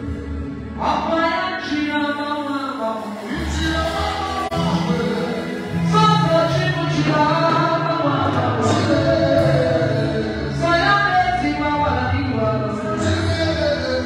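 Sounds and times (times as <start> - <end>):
woman singing into a microphone: 0.8 - 14.0.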